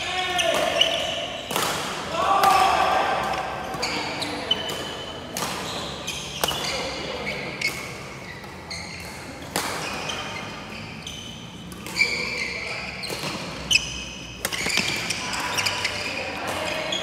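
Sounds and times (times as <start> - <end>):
sneakers squeaking on floor: 0.0 - 2.0, 3.3 - 17.0
rackets hitting shuttlecock: 0.0 - 10.7, 11.6 - 17.0.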